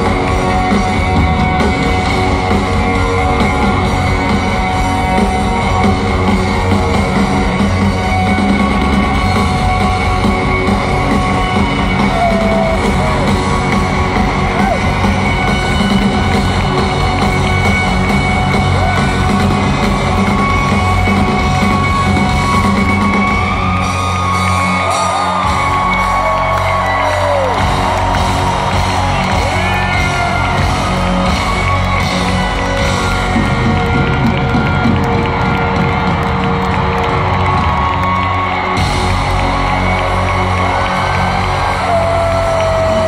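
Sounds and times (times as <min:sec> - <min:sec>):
rock band playing live: 0:00.0 - 0:43.0.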